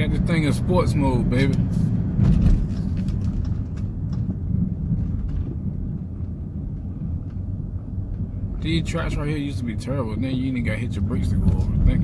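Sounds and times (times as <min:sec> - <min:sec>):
car engine exhaust rumble: 0:00.0 - 0:12.0.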